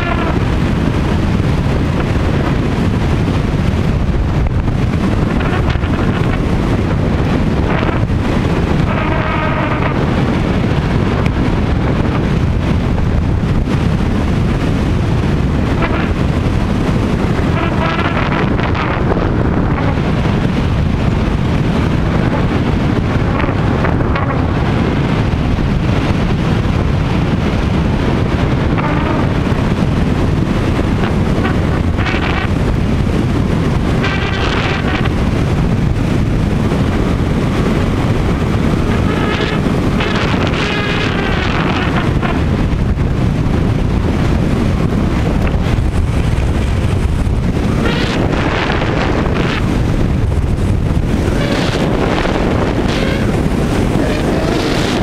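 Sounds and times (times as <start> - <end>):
airflow rushing over microphone: 0.0 - 55.0
loose sail vibrating buzz: 0.0 - 55.0.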